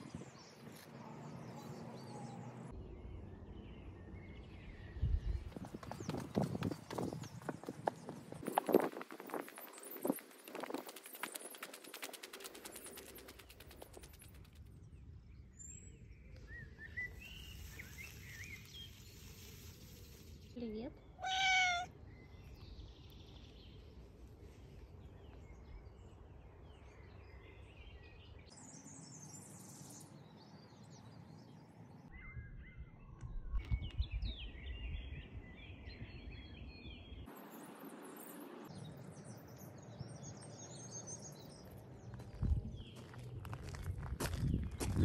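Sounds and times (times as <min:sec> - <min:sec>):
small birds chirping: 0:00.0 - 0:37.3, 0:38.1 - 0:45.0.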